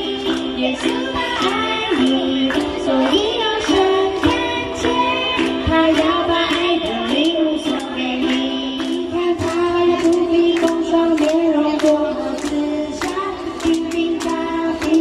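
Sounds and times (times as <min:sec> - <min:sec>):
group of girls and women singing: 0:00.0 - 0:15.0
ukuleles strumming: 0:00.0 - 0:15.0.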